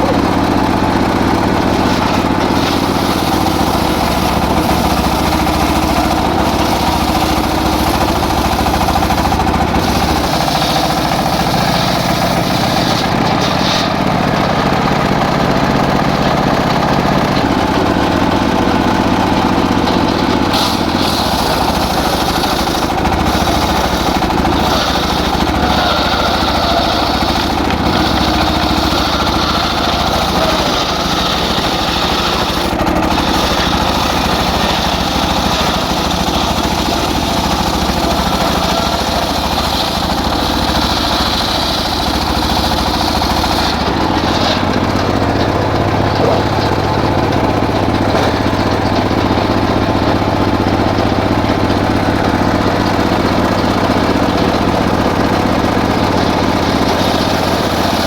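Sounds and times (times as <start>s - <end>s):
circular sawmill sawing wood: 0.0s - 58.0s.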